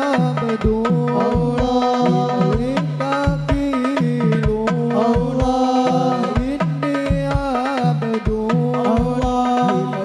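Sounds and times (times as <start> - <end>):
hand drums beating: 0.0 - 10.0
men singing: 0.0 - 10.0.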